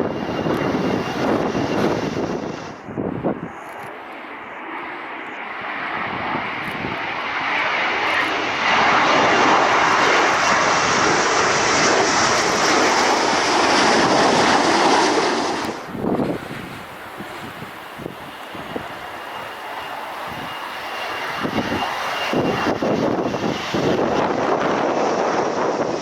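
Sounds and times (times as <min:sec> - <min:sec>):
jet engine roar passing: 0:00.0 - 0:26.0.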